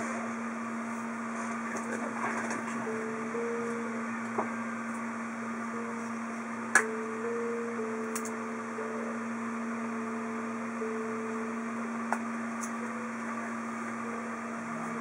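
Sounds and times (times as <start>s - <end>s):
electrical hum: 0.0s - 15.0s
two-pitch tone: 2.8s - 15.0s.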